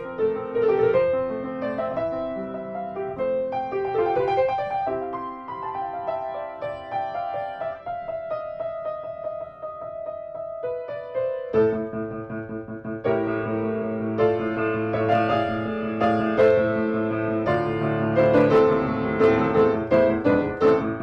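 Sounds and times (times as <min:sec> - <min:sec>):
piano melody: 0:00.0 - 0:21.0.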